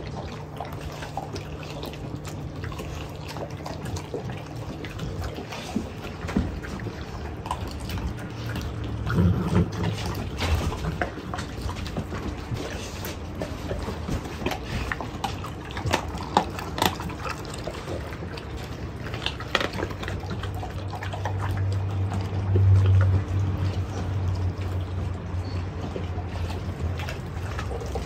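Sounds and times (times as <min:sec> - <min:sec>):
dogs chewing wetly: 0:00.0 - 0:28.0.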